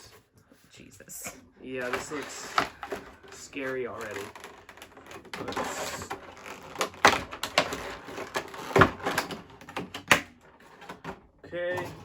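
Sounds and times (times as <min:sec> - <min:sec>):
cardboard rustling: 0:01.1 - 0:12.0.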